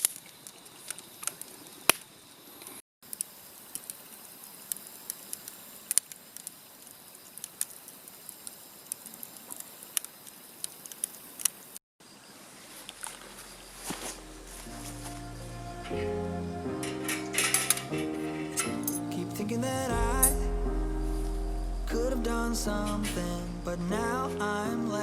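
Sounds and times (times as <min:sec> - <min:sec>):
low hiss: 0:02.3 - 0:25.0.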